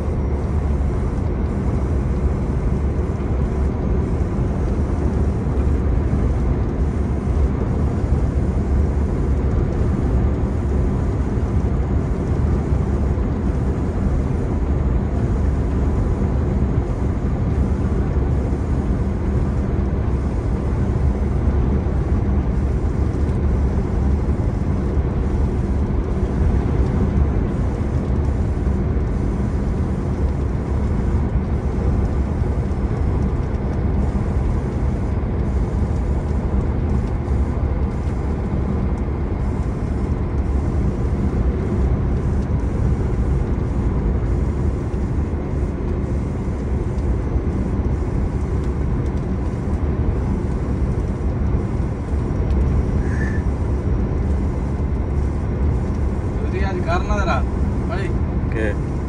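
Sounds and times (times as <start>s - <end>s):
road noise: 0.0s - 59.0s
truck engine rumble: 0.0s - 59.0s.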